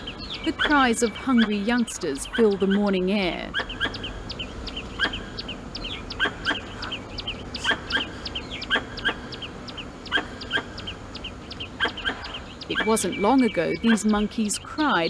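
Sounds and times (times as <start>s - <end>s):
young monkeys crying: 0.0s - 15.0s.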